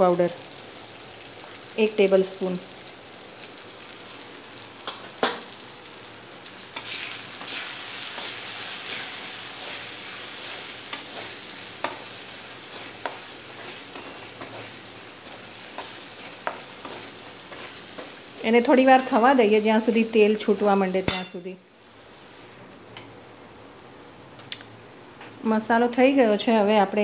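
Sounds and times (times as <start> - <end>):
masala sizzling in oil: 0.0 - 27.0.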